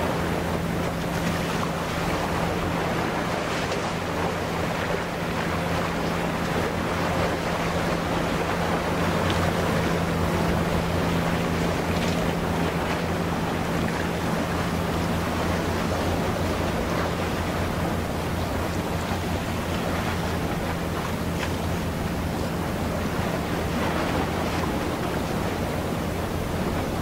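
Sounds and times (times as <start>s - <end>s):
ship engines humming: 0.0s - 27.0s
water wash: 0.0s - 27.0s.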